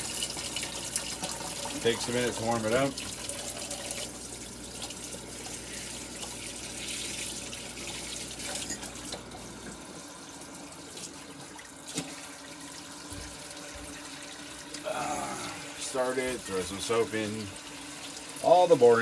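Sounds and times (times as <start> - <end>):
faucet running into sink: 0.0 - 14.9, 15.8 - 19.0.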